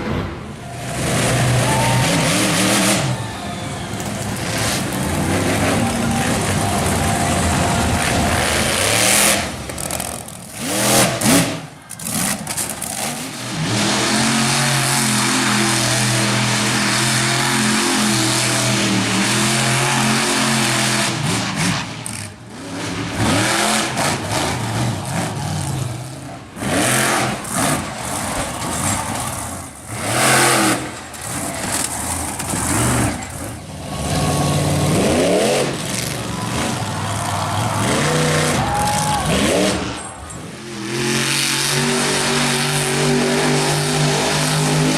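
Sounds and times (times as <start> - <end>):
truck engines revving hard: 0.0 - 44.9.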